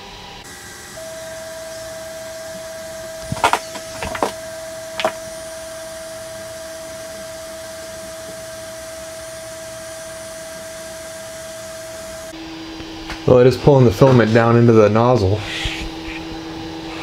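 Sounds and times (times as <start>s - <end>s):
cooling fan whining: 0.0s - 17.0s.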